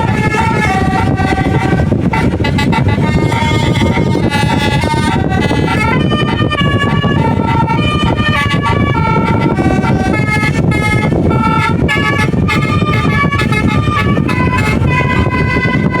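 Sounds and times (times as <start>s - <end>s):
low engine rumble: 0.0s - 16.0s
multi-tone air horns playing tune: 0.0s - 16.0s.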